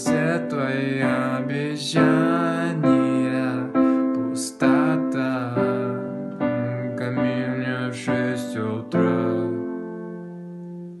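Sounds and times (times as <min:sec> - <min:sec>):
sustained keyboard chords: 0:00.0 - 0:11.0.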